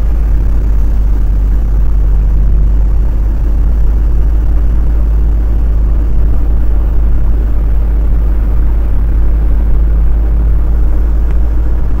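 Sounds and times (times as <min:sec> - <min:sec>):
lorry engine and road rumble: 0:00.0 - 0:12.0.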